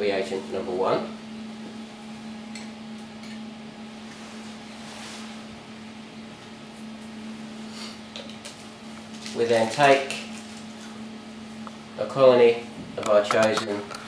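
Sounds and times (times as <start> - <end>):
laboratory equipment humming: 0.0 - 14.0.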